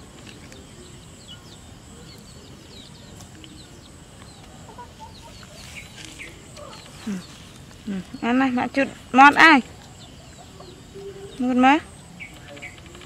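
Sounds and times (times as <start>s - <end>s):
chickens clucking: 0.0s - 13.0s
low background noise: 0.0s - 13.0s.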